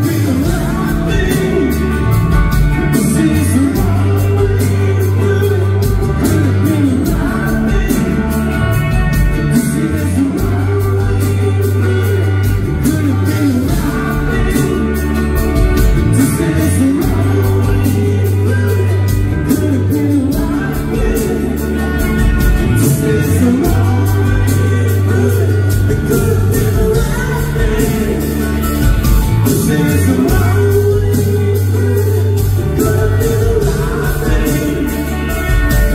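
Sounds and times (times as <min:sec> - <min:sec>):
acoustic and electric guitars: 0:00.0 - 0:35.9
drums steady beat: 0:00.0 - 0:35.9
man singing: 0:00.0 - 0:35.9.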